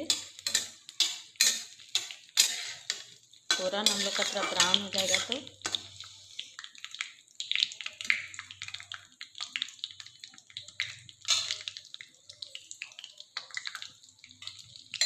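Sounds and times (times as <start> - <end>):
spices crackling in hot oil: 0.0 - 15.0.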